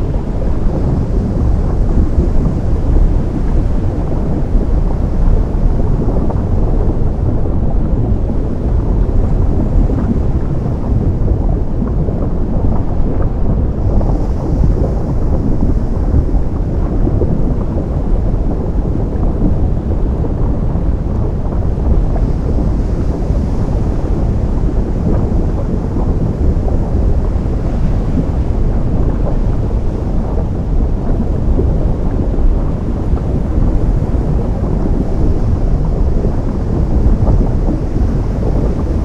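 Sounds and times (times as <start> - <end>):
surf rumbling roar: 0.0 - 39.0.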